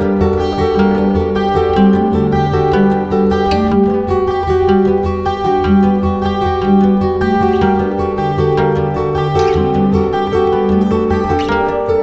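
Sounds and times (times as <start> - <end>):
plucked strings music: 0.0 - 12.0.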